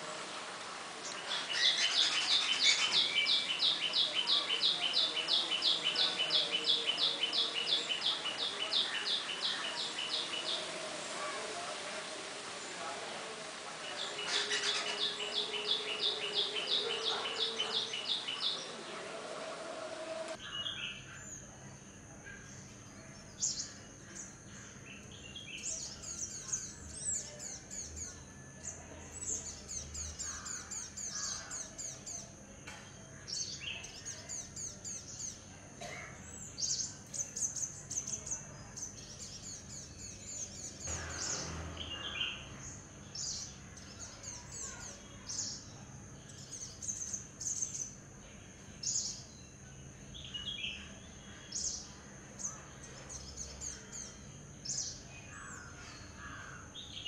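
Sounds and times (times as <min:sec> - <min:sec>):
sunbirds twittering: 0:00.0 - 0:57.0.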